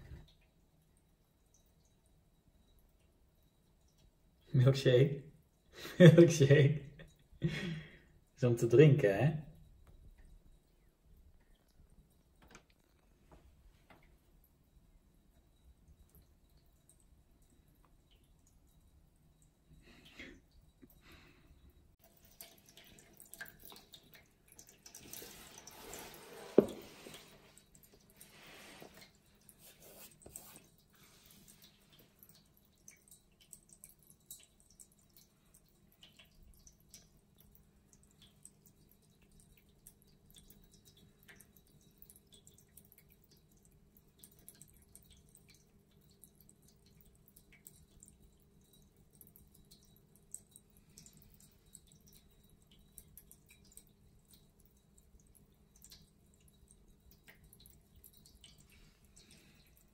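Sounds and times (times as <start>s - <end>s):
faint steady hum: 0.0s - 59.9s
water trickling and dripping: 0.0s - 59.9s.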